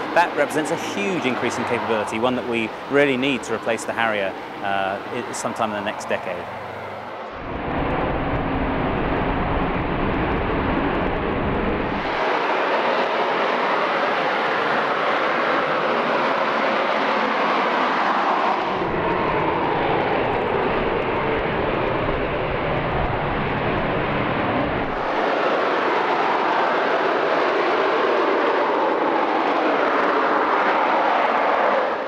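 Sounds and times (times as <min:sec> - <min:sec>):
jet engine roaring: 0:00.0 - 0:32.0.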